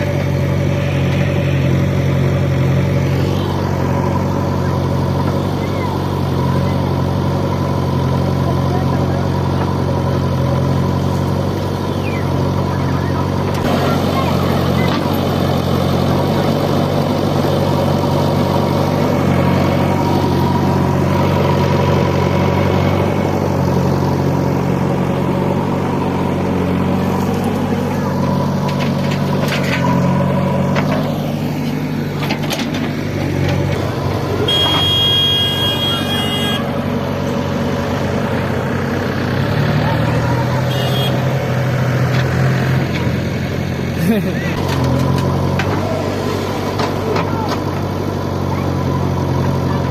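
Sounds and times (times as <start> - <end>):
diesel machine engine running: 0.0 - 49.9.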